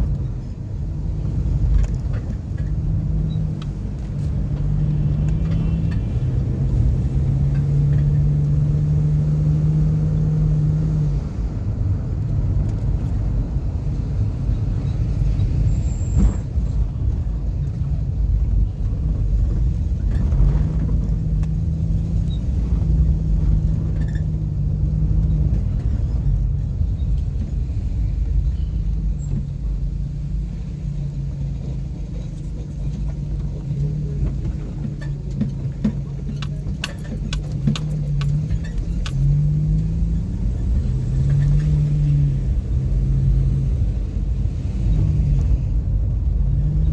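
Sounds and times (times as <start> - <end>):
car engine hum: 0.0 - 46.9
road rumble: 0.0 - 46.9.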